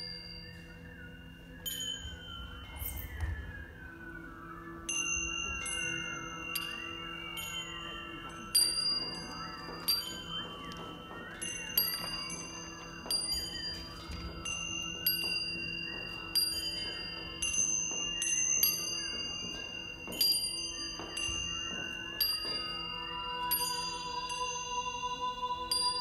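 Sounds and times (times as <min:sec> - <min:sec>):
bell-like metal percussion: 0:00.0 - 0:03.9, 0:04.8 - 0:26.0.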